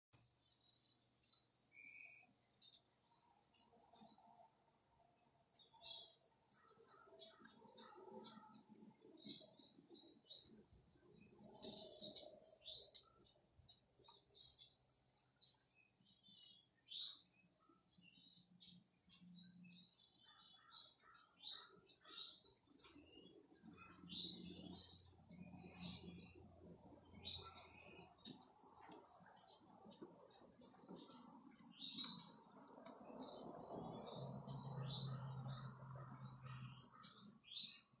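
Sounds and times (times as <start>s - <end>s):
small songbirds chirping: 0.1s - 38.0s.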